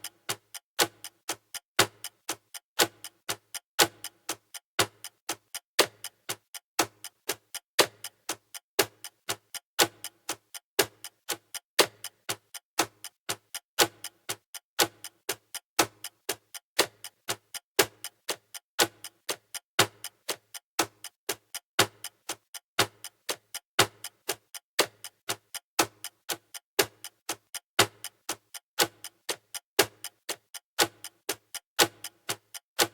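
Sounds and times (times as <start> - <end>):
countdown timer ticking: 0.0 - 32.9.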